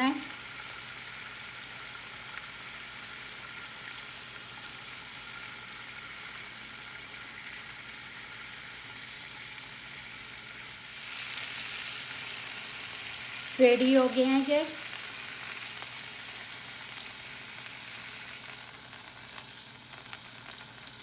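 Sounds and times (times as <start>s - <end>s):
meat sizzling in oil: 0.0s - 21.0s.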